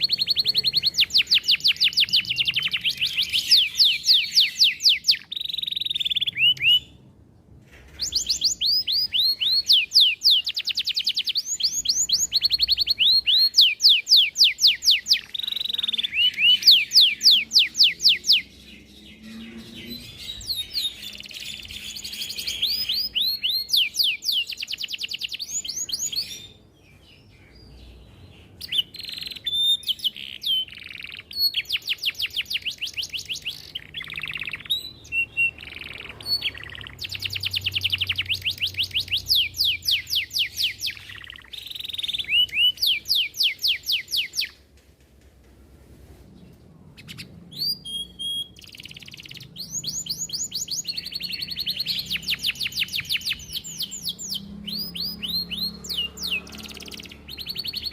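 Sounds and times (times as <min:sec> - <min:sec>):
canary singing trills: 0:00.0 - 0:07.1, 0:07.9 - 0:44.6, 0:47.0 - 0:57.9.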